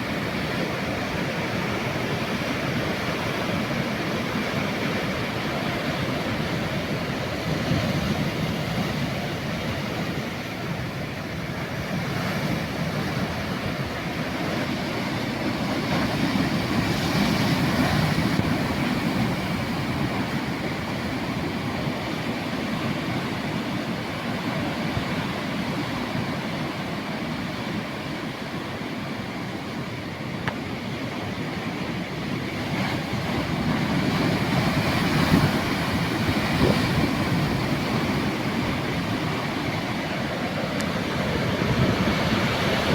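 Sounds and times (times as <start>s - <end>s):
sea waves washing in: 0.0s - 42.9s.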